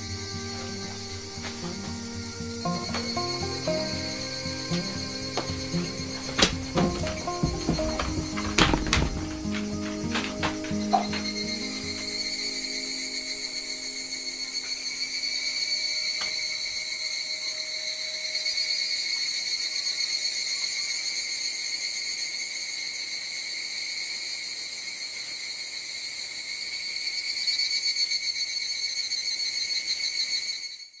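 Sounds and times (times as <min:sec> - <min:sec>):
cicadas trilling: 0:00.0 - 0:31.0.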